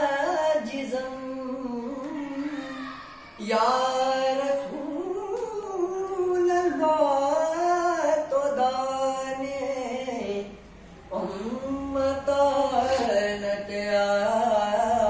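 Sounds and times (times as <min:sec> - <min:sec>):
man singing devotional song: 0:00.0 - 0:02.8, 0:03.4 - 0:15.0.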